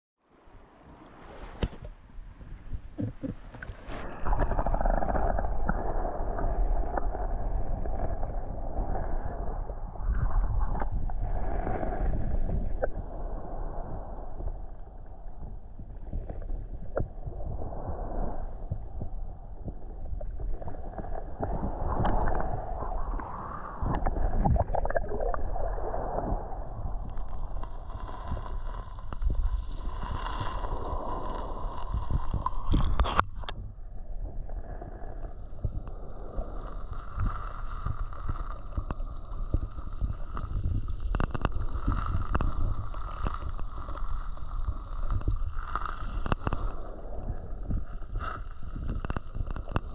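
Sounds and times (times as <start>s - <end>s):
underwater water gurgling: 0.8s - 49.9s.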